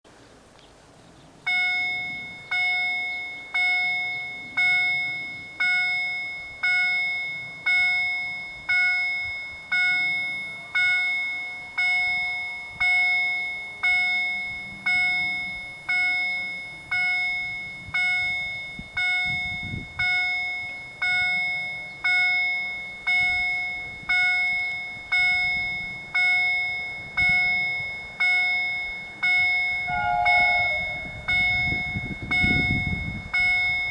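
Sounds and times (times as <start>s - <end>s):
level crossing warning bell: 1.4s - 33.9s.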